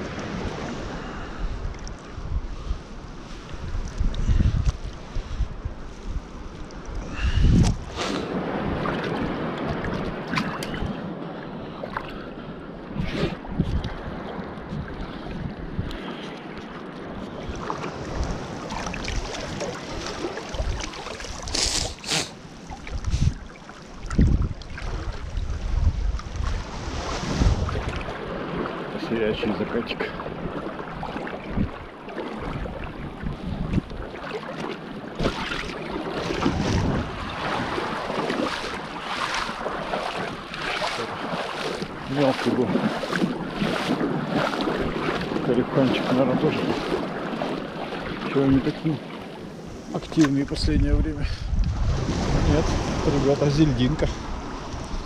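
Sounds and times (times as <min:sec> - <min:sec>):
sea water sloshing: 0:00.0 - 0:50.8
wind buffeting microphone: 0:00.0 - 0:55.0.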